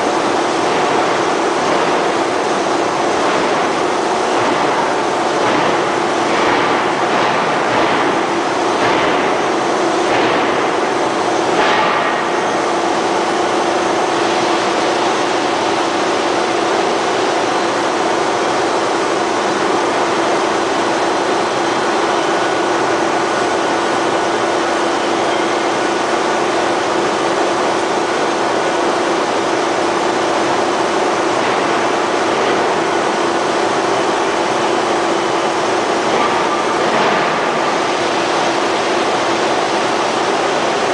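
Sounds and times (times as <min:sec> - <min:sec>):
forging machinery noise: 0:00.0 - 0:40.9.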